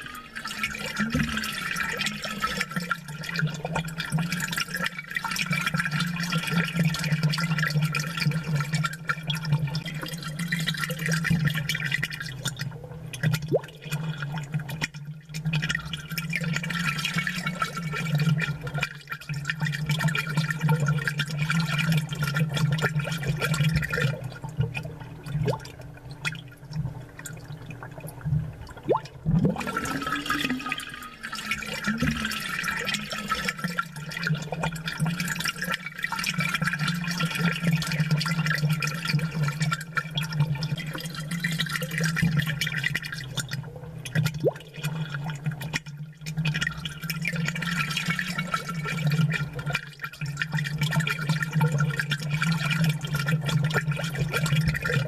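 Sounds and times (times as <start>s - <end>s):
aquarium water bubbling: 0.0s - 55.0s.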